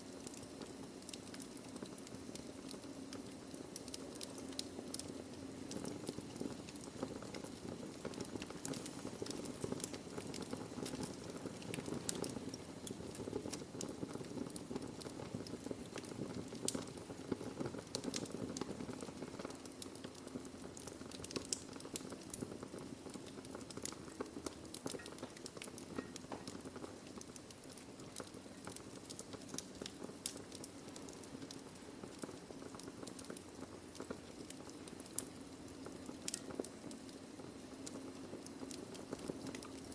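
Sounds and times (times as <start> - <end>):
burning logs crackling and popping: 0.0 - 39.9
fire hissing and rumbling: 0.0 - 39.9.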